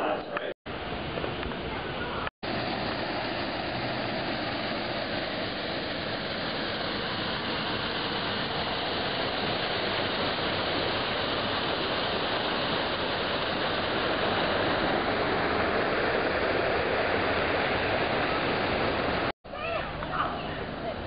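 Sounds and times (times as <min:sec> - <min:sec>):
waterfall pouring into pool: 0:02.4 - 0:19.3.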